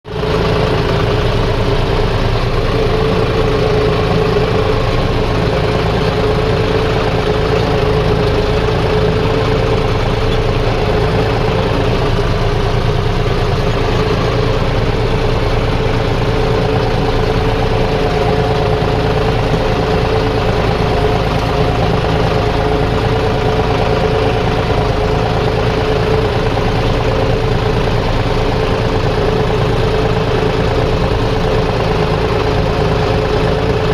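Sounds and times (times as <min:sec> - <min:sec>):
engine running steadily: 0:00.0 - 0:33.9.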